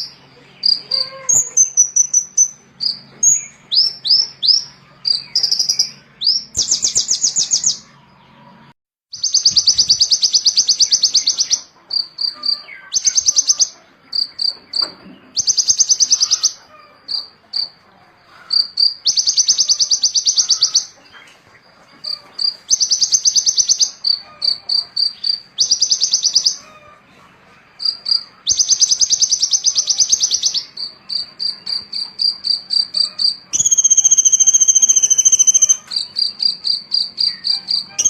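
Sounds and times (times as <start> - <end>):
songbird singing buzzy trills: 0.0 - 38.0.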